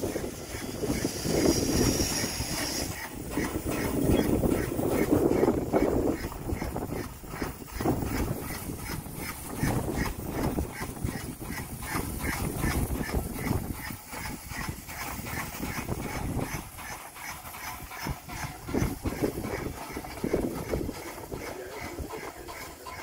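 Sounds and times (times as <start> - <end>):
steam locomotive exhaust chuffing: 0.0 - 23.0.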